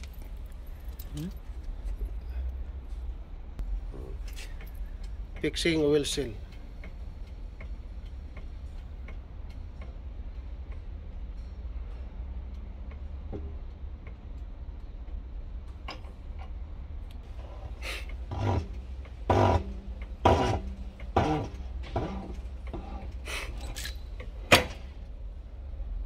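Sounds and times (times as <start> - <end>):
low workshop hum: 0.0 - 26.0.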